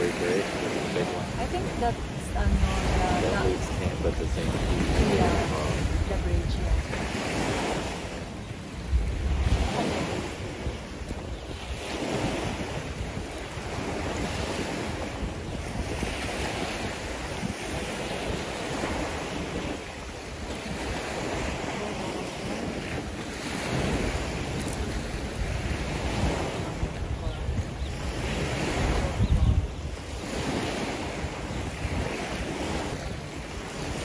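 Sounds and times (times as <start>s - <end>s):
small waves washing onto beach: 0.0s - 34.0s
wind rumbling on microphone: 0.0s - 34.0s.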